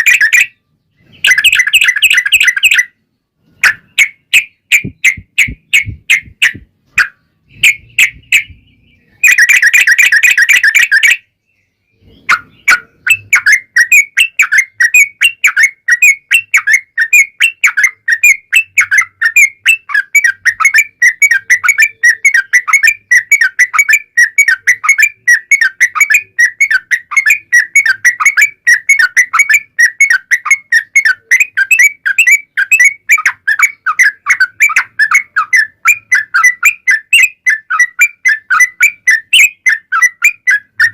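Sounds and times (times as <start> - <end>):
bulbul singing chirping notes: 0.0 - 40.9.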